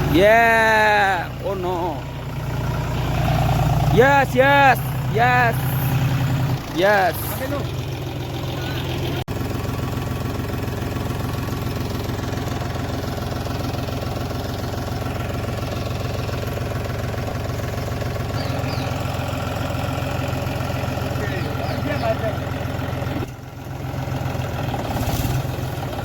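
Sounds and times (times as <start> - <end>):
tractor diesel engine chugging: 0.0 - 26.0.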